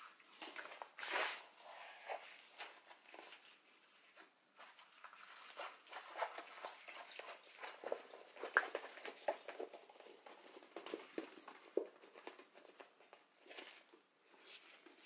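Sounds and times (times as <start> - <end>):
plastic sheet rustling and crinkling: 0.0 - 15.0.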